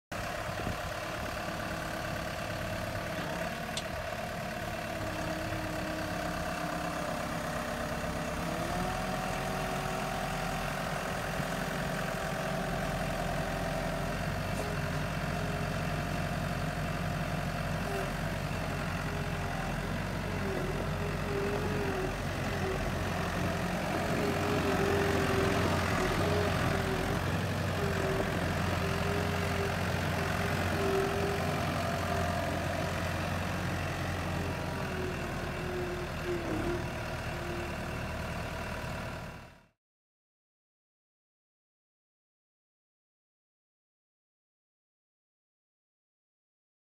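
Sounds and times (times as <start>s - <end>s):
skid steer engine idling: 0.1s - 39.8s.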